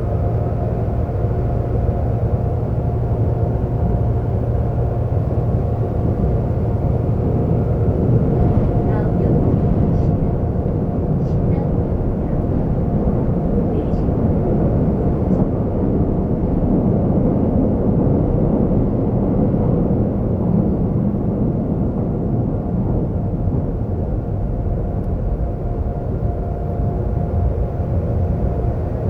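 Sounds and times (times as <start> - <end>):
faint steady whine: 0.0 - 29.0
subway train rumble: 0.0 - 29.0.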